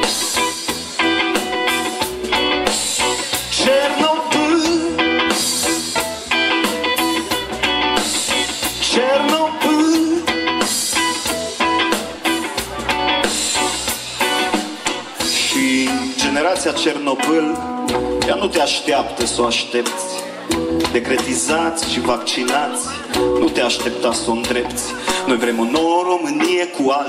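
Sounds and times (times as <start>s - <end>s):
electric guitar riff: 0.0s - 26.8s
rock band playing: 0.0s - 27.0s.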